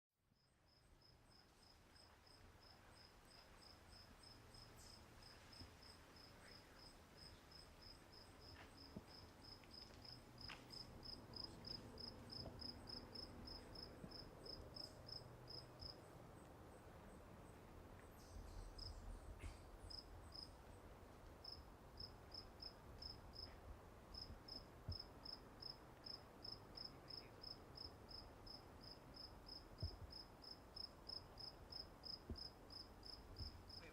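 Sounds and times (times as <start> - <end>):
cricket chirping: 0.4 - 20.8, 21.4 - 33.9.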